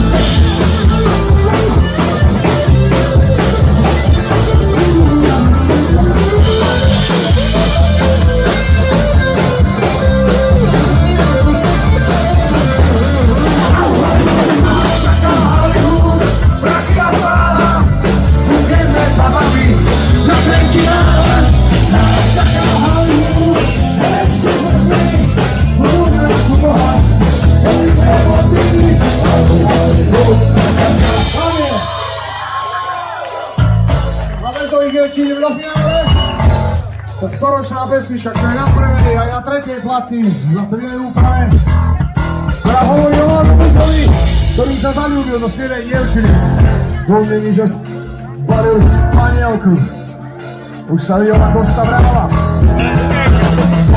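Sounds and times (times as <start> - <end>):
person singing: 0.0 - 33.6, 40.3 - 53.9
punk rock band playing live: 0.0 - 53.9.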